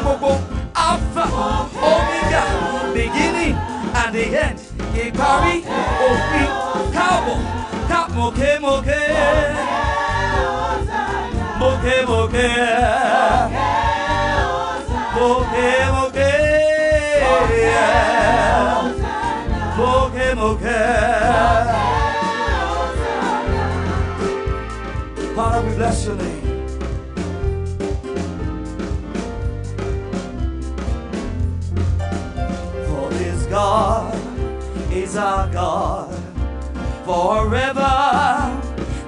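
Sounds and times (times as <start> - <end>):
gospel voices singing: 0.0 - 26.5, 32.8 - 36.4, 37.0 - 39.0
instrumental backing with bass: 0.0 - 39.0.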